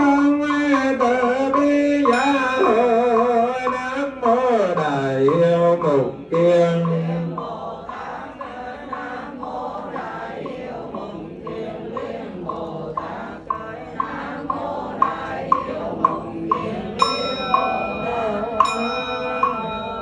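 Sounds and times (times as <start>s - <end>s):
person chanting: 0.0s - 20.0s
percussive taps: 0.5s - 17.7s.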